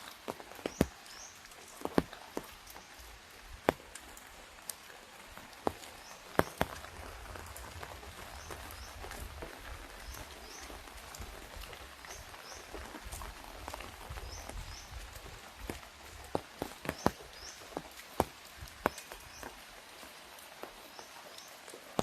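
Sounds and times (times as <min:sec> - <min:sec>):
drops tapping an umbrella: 0:00.0 - 0:22.0
light rain falling: 0:00.0 - 0:22.0.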